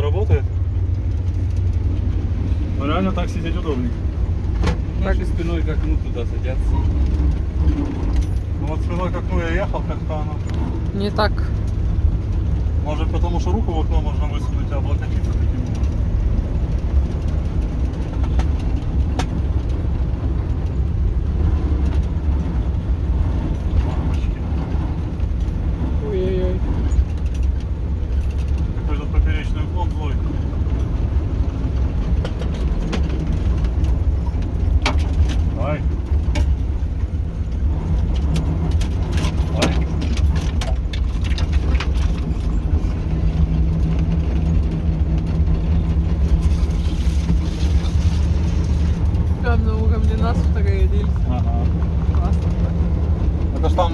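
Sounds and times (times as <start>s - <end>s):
diesel engine drone: 0.0s - 53.9s.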